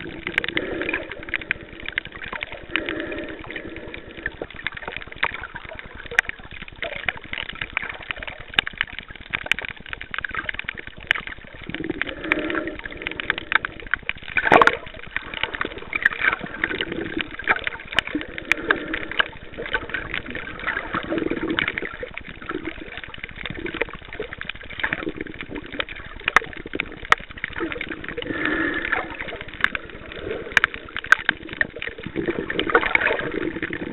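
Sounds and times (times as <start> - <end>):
crackle of small clicks: 0.0 - 33.9
muffled gurgling water: 0.0 - 33.9.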